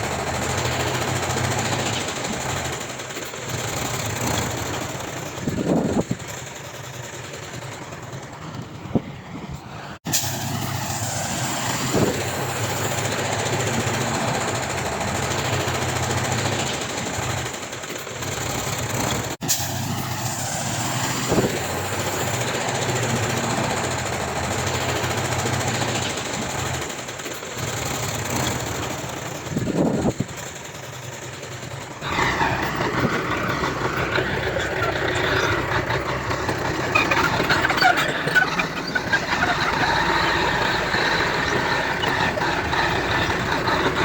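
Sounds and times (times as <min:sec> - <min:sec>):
diesel machinery engine drone: 0:00.0 - 0:44.0.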